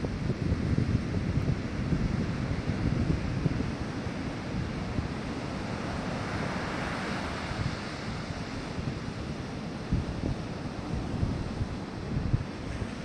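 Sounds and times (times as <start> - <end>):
surf washing up beach: 0.0 - 13.0
wind buffeting microphone: 0.0 - 13.0.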